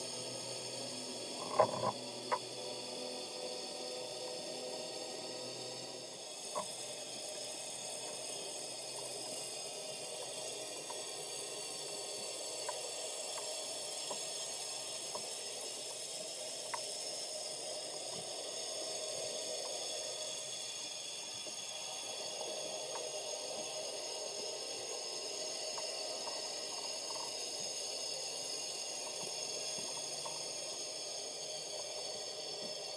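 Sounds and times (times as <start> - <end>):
underwater hiss: 0.0 - 32.9.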